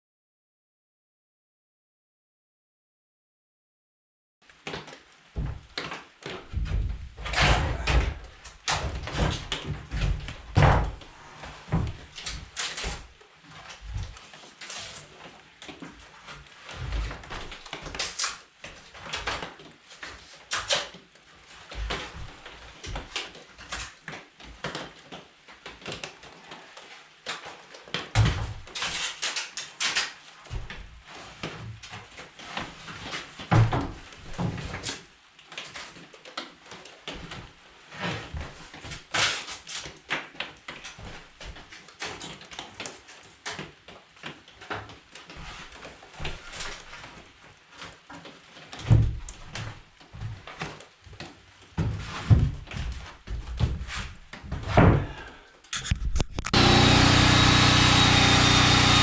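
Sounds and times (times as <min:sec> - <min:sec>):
knocks and clatter from hand work: 0:04.6 - 0:26.3, 0:27.3 - 0:35.0, 0:36.6 - 0:59.0.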